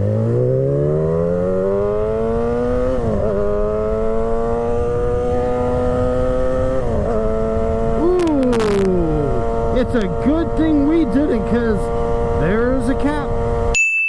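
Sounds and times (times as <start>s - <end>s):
motorcycle engine accelerating hard: 0.0s - 13.8s.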